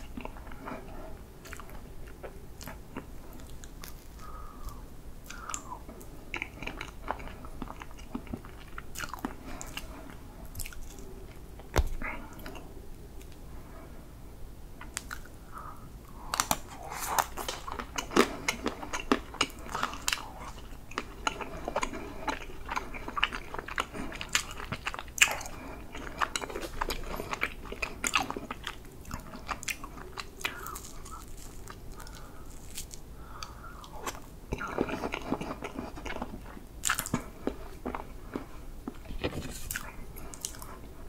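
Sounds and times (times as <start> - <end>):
crunching and chewing chocolate: 0.0 - 13.4, 14.8 - 41.0.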